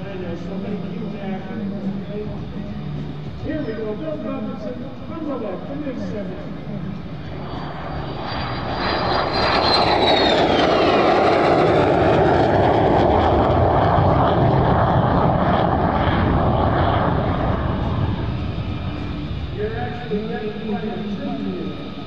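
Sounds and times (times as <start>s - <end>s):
jet engine rumble: 0.0s - 22.0s
jet engine whine: 0.0s - 22.0s.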